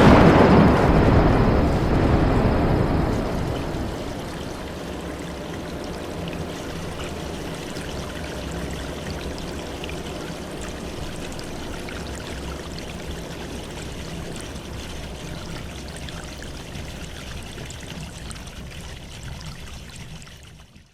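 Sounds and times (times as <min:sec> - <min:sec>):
flowing water rushing: 0:00.0 - 0:20.9.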